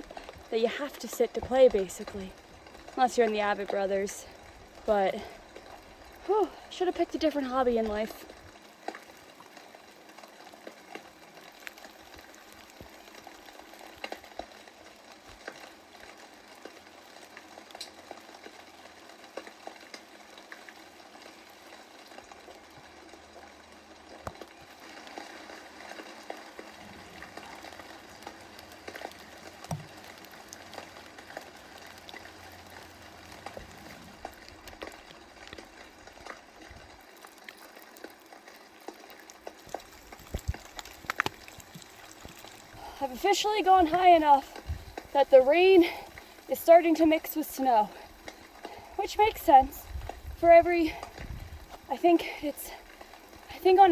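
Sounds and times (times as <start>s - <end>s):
raindrop ticks: 0.0s - 53.9s
steady rain: 0.0s - 53.9s.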